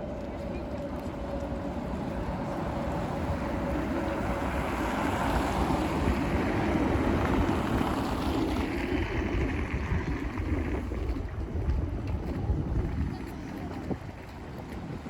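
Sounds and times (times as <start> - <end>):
strong wind gusting on microphone: 0.0 - 15.0.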